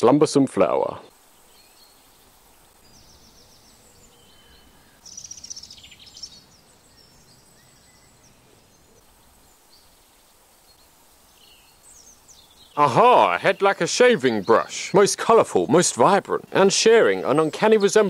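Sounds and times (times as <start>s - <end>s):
faint meadow ambience: 0.0s - 18.0s.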